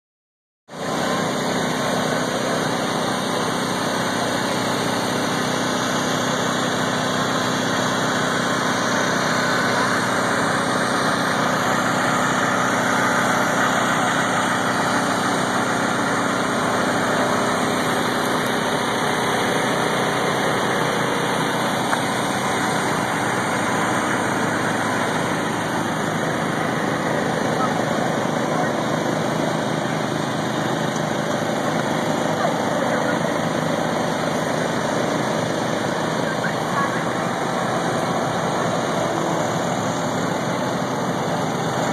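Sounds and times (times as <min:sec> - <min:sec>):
engine hum: 0:00.7 - 0:41.9.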